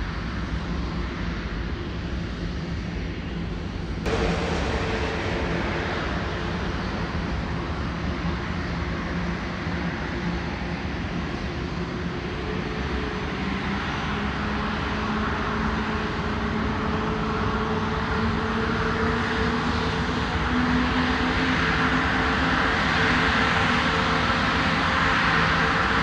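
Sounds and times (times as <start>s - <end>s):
jet engines taxiing: 4.1s - 26.0s.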